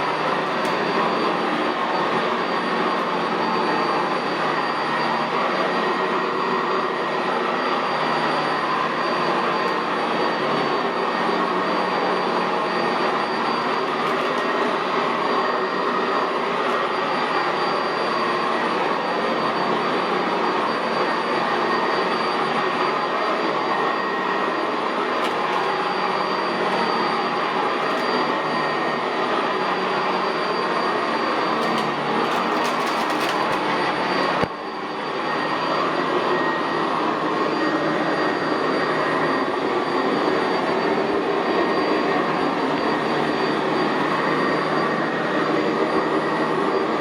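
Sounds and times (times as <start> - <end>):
vacuum cleaner running on carpet: 0.0 - 47.0.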